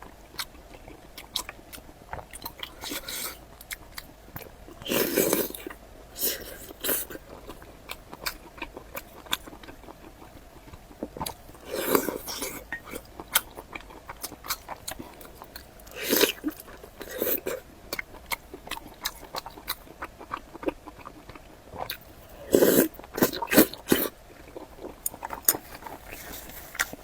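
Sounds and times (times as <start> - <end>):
person biting and chewing food: 0.3 - 27.0.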